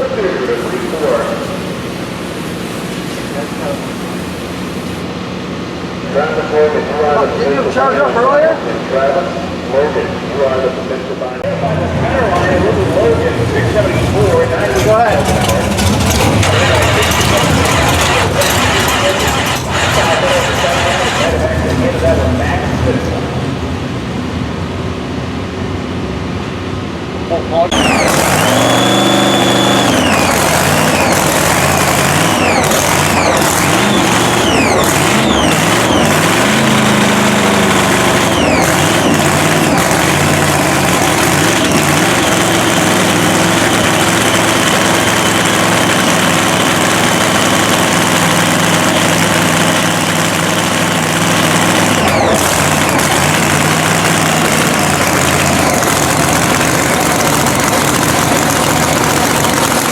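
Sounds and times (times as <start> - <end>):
drag racing engine revving and idling: 0.0 - 59.9.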